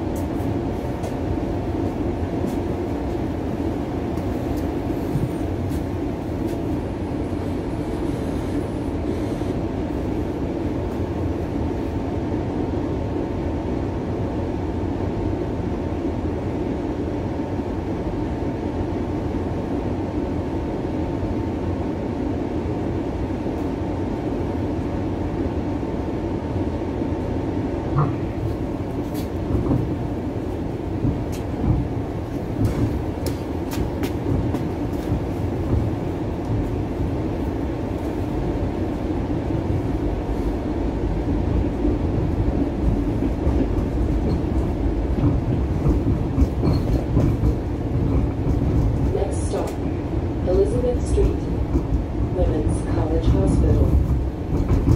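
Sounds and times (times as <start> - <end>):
streetcar rumbling on track: 0.0 - 54.9.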